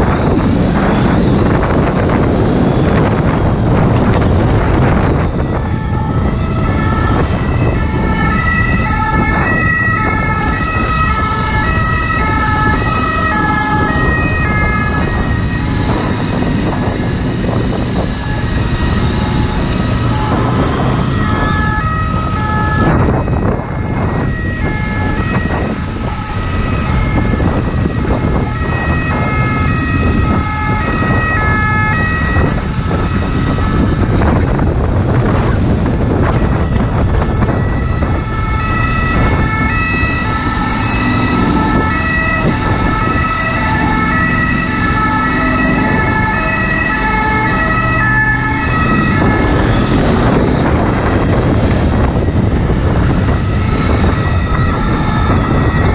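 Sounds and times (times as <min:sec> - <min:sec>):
ambulance two-tone siren: 0:00.0 - 0:55.9
wind on microphone: 0:00.0 - 0:55.9.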